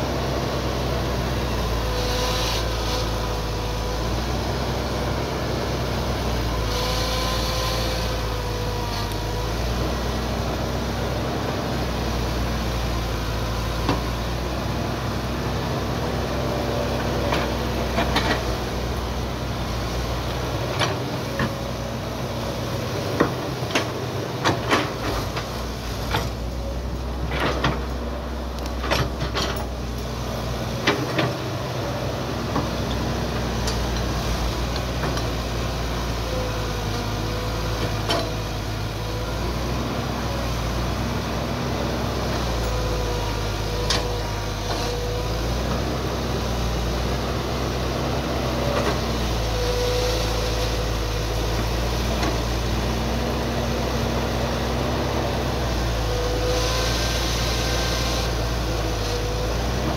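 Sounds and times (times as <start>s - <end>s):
excavator diesel engine running: 0.0s - 59.9s
hydraulic whine: 0.0s - 59.9s.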